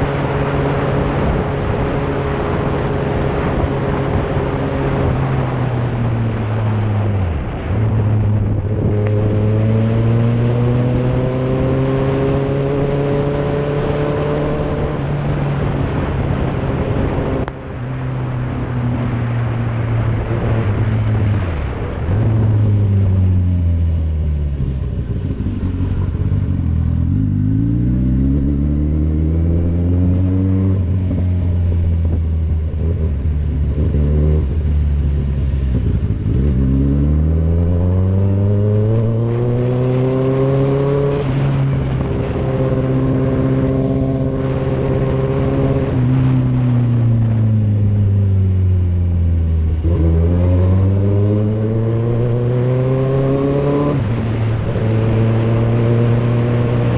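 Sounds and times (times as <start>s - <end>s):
motorcycle engine: 0.0s - 56.9s
wind and road noise: 0.0s - 56.9s.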